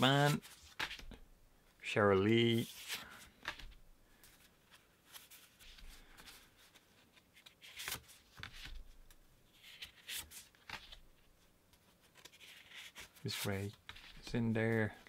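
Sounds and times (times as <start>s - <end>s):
cards rustling and sliding: 0.0s - 1.2s, 2.2s - 14.9s.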